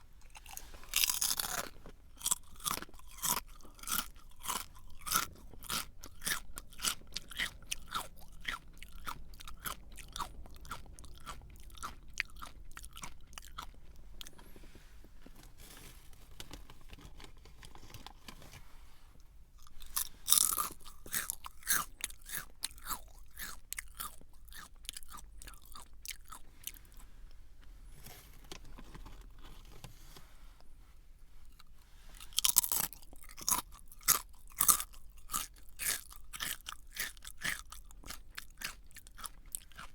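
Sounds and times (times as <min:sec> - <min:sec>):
chewing crunchy snack: 0:00.2 - 0:18.5, 0:19.5 - 0:27.4, 0:31.4 - 0:39.9.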